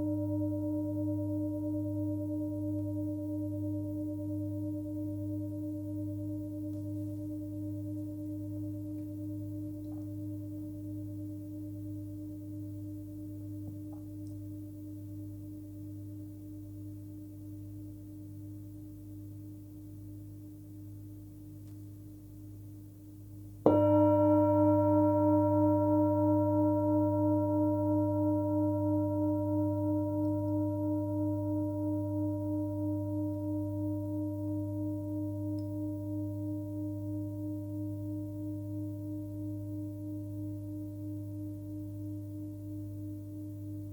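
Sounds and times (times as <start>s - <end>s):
singing bowl ringing: 0.0s - 18.5s, 23.6s - 43.9s.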